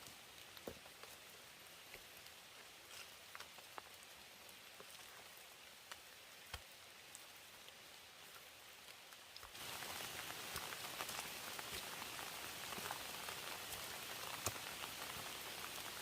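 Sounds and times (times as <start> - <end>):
faint steady rain: 0.0 - 16.0.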